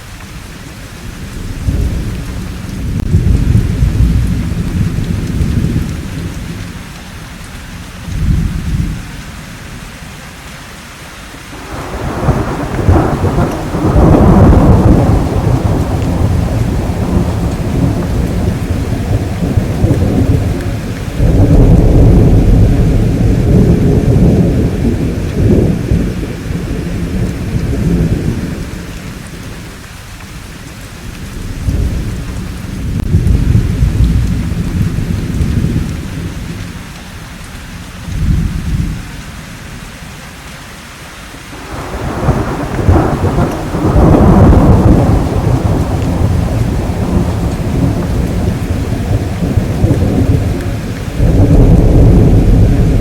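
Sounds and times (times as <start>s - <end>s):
steady rain: 0.0s - 53.0s
rolling thunder: 1.0s - 6.9s, 11.6s - 29.8s, 31.0s - 37.0s, 37.8s - 39.2s, 41.6s - 53.0s.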